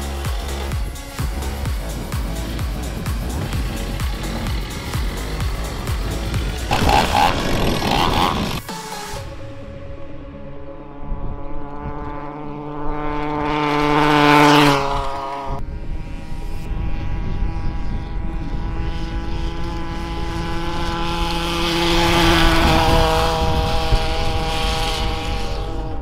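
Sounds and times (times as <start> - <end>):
small two-stroke engine revving: 0.0 - 9.2, 11.6 - 26.0.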